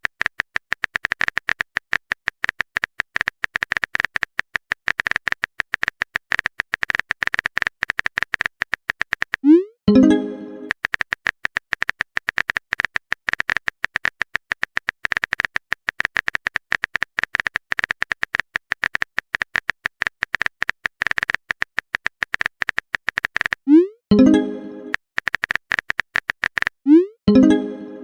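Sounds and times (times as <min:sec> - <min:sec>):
rapid typing clicks: 0:00.0 - 0:23.6, 0:24.8 - 0:26.8.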